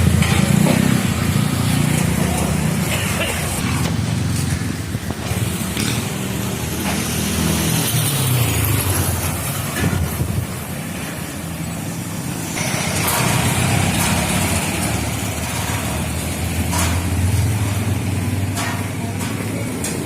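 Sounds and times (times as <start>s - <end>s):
traffic passing on a street: 0.0s - 20.0s.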